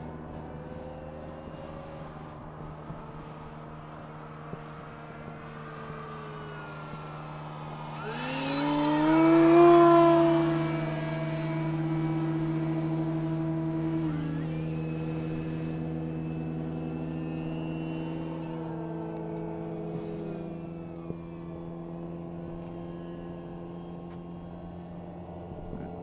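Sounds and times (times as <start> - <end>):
model airplane motor whine: 0.0 - 26.0.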